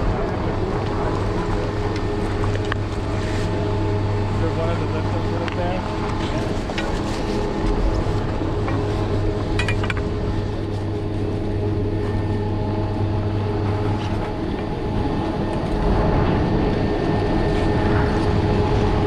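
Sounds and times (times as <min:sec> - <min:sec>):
chairlift machinery humming: 0:00.0 - 0:19.0.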